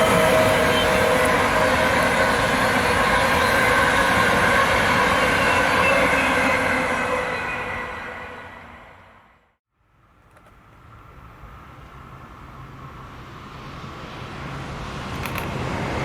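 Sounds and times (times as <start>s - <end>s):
train wheels rushing on rails: 0.0s - 9.3s, 10.4s - 16.0s.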